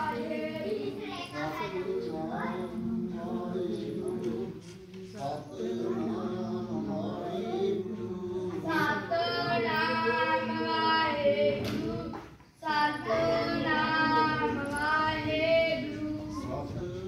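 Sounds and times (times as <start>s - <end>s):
high voice singing a hymn: 0.0s - 17.0s.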